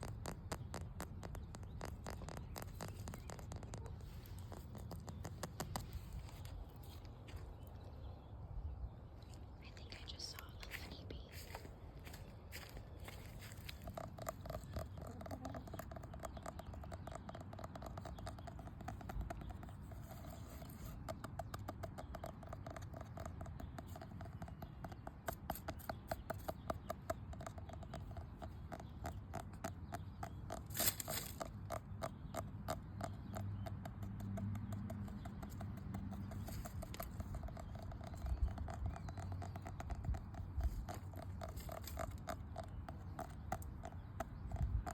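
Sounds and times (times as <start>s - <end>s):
light tapping on hard object: 0.0s - 6.6s, 12.5s - 44.9s.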